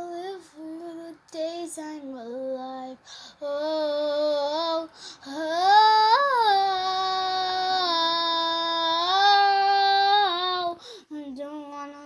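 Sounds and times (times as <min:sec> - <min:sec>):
child singing unaccompanied: 0:00.0 - 0:12.0.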